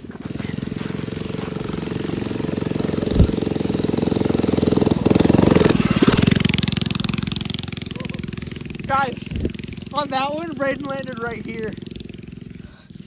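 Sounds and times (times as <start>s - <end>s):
mini bike engine revving: 0.0s - 13.0s.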